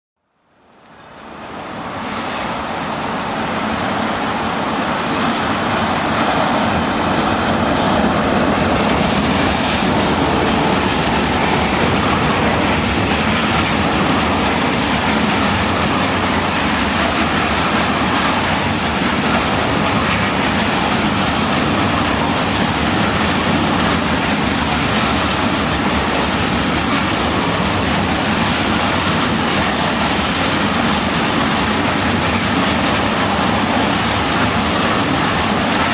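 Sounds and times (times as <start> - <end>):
electric locomotive passing: 0.4 - 35.9
train wagons rolling over track: 0.9 - 35.9.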